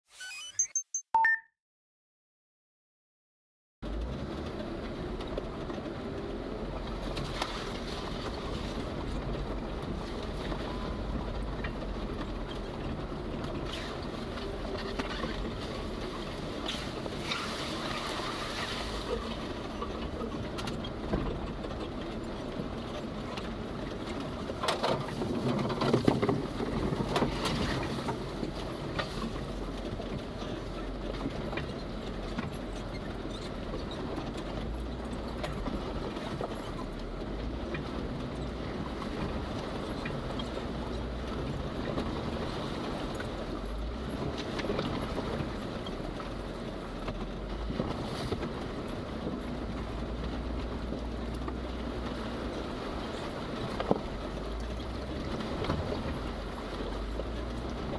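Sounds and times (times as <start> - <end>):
car engine low rumble: 3.8 - 57.9
road and body noise: 3.8 - 57.9.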